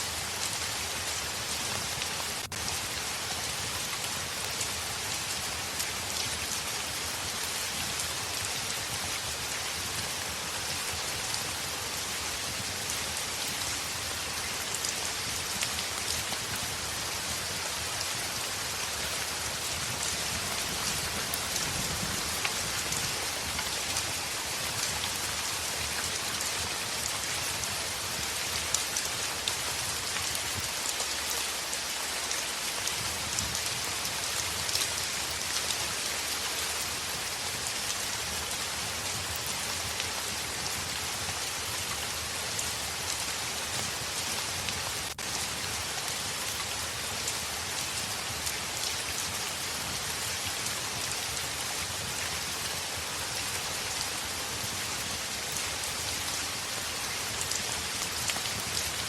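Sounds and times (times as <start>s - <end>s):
heavy rain on a window: 0.0s - 59.0s.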